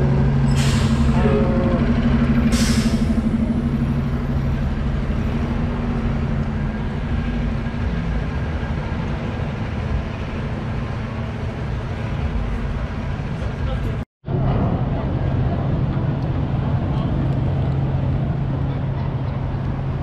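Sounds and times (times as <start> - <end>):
distant traffic hum: 0.0 - 20.0
large vehicle engine humming: 0.0 - 20.0.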